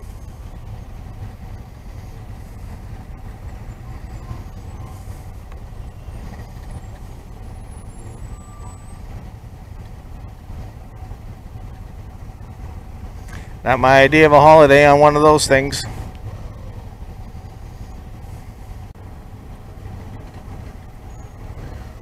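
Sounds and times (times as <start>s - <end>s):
motorcycle engine rumble: 0.0s - 22.0s
wind and road noise: 0.0s - 22.0s.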